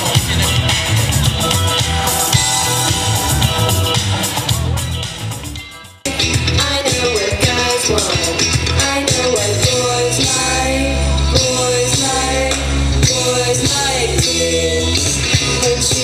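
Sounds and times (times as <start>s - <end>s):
song with vocals and heavy bass: 0.0s - 16.0s.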